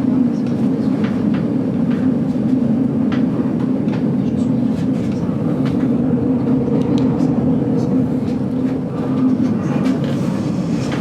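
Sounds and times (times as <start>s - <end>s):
train carriage rolling rumble: 0.0s - 11.0s.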